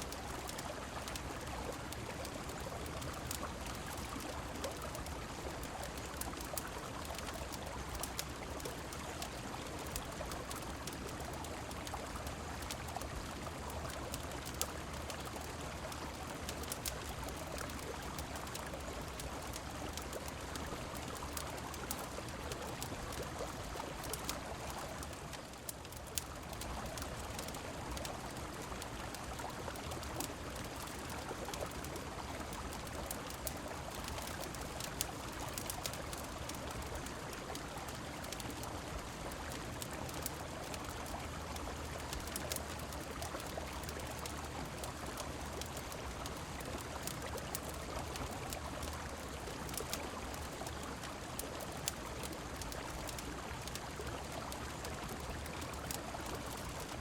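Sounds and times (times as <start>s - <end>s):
rain: 0.0s - 57.0s
river flowing: 0.0s - 57.0s
sharp ticks and crackles: 0.0s - 57.0s.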